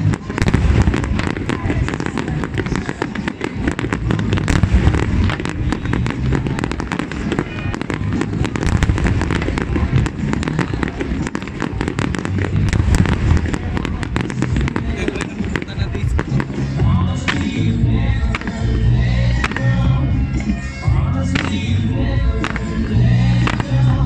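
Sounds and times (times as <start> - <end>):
fireworks bursting and crackling: 0.0 - 24.0
music soundtrack: 0.0 - 24.0.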